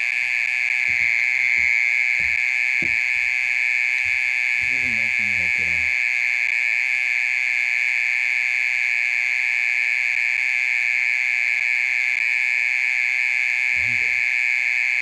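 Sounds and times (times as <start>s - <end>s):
mole cricket buzzing trill: 0.0s - 15.0s.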